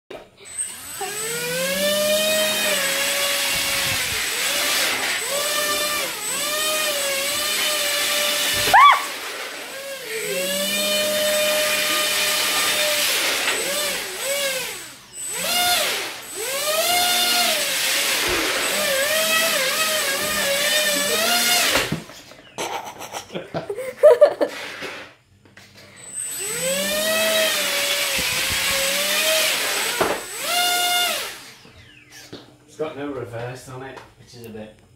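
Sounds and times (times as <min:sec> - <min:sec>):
electric motor and propeller whining: 0:00.4 - 0:22.4, 0:25.8 - 0:32.4.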